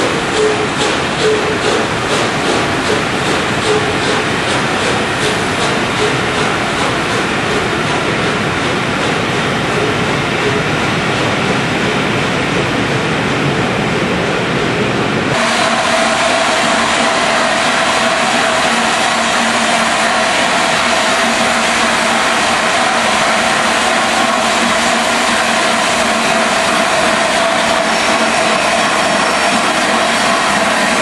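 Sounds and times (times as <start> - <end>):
steam locomotive hissing: 0.0 - 12.5, 15.3 - 31.0.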